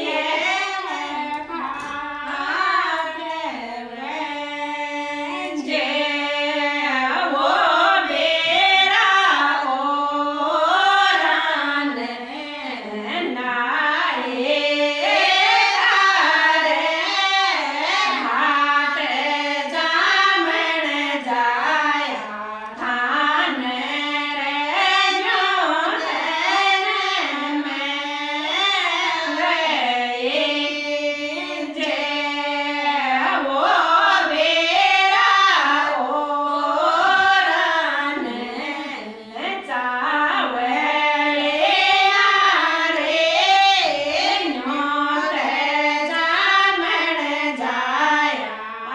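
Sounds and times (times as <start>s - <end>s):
women singing folk melody: 0.0s - 48.9s.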